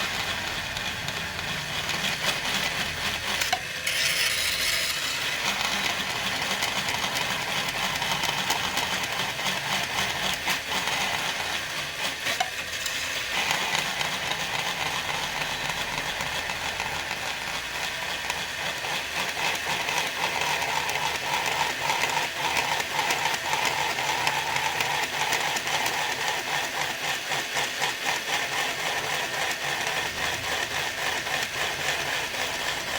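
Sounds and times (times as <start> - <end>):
angle grinder cutting plastic: 0.0 - 32.9.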